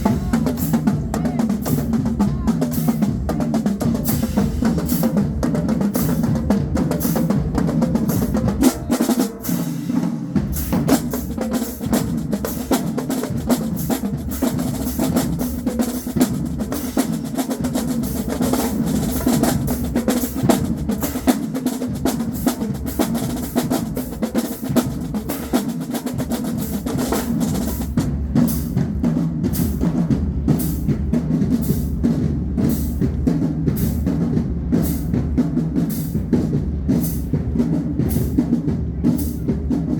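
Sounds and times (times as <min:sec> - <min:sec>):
bass drums: 0:00.0 - 0:39.9
snare drums: 0:00.0 - 0:39.9.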